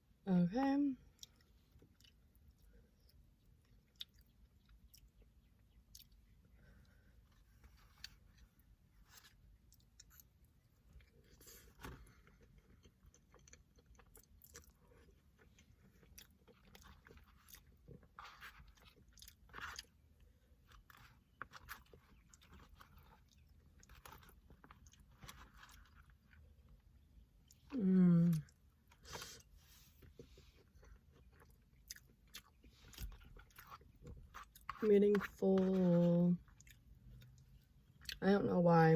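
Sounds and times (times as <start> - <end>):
chewing and crunching food: 0.9 - 38.4.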